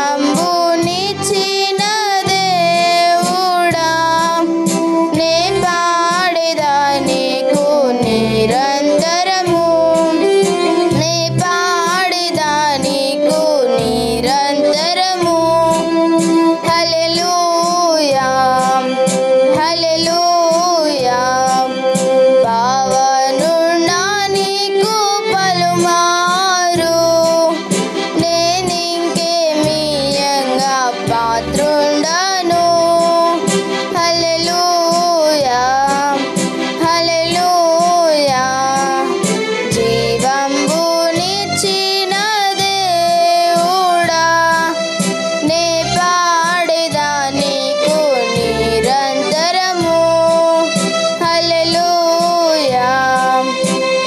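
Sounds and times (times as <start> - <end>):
girl singing devotional song: 0.0 - 53.8.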